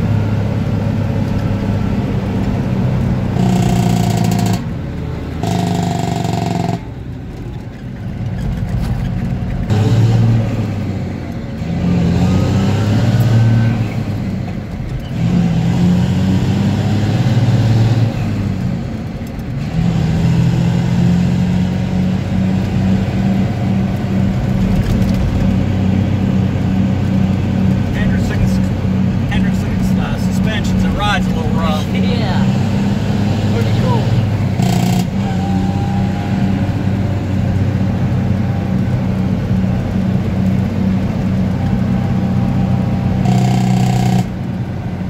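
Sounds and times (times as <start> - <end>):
truck engine shifting gears: 0.0 - 45.0.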